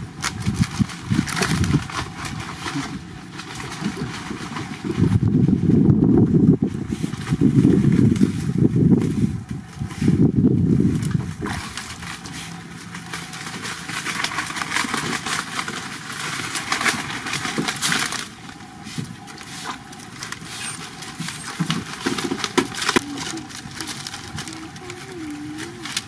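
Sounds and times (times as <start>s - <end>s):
plants rustling: 0.0s - 26.0s.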